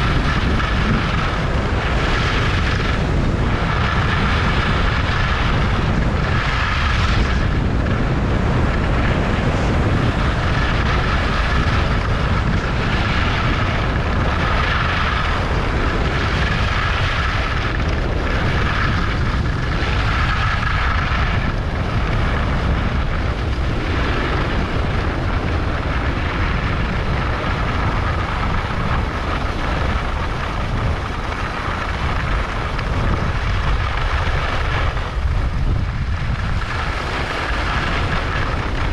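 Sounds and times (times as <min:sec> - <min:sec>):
skis scraping on snow: 0:00.0 - 0:38.9
wind buffeting microphone: 0:00.0 - 0:38.9.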